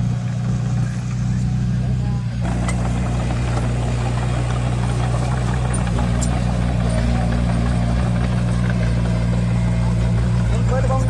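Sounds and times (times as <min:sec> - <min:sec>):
bulldozer diesel engine droning: 0:00.0 - 0:11.0.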